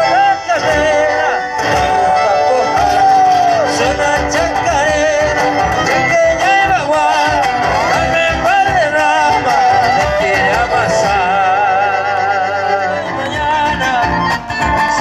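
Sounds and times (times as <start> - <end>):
accordion: 0.0 - 15.0
acoustic guitars: 0.0 - 15.0
wavering lead melody: 0.0 - 15.0.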